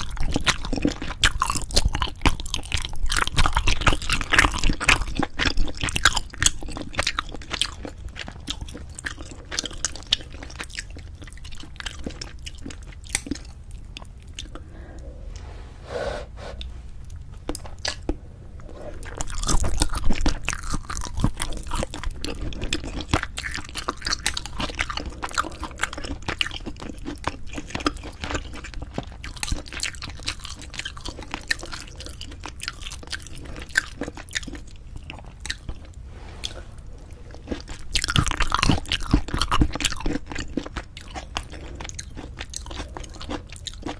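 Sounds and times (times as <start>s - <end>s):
wet chewing: 0.0s - 15.4s, 16.6s - 43.9s.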